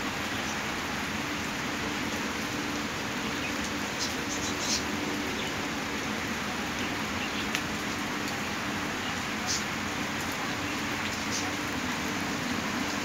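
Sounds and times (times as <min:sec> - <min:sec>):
heavy rain on plants and patio: 0:00.0 - 0:13.0.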